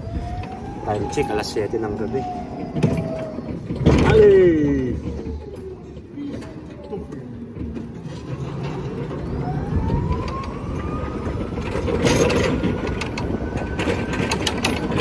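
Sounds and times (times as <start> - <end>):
rattling and clatter: 2.6 - 15.0.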